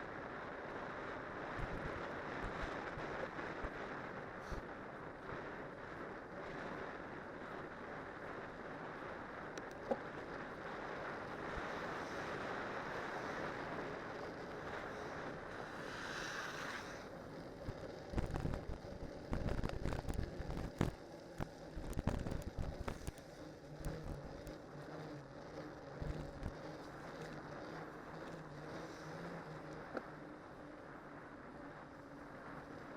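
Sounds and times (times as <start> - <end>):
bike tyres rolling on road: 0.0 - 32.9.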